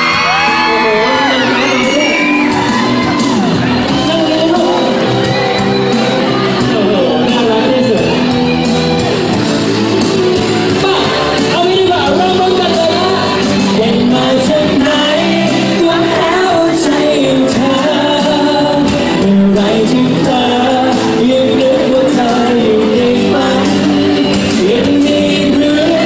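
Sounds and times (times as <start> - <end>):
person singing: 0.0 - 26.0
pop song over loudspeakers: 0.0 - 26.0.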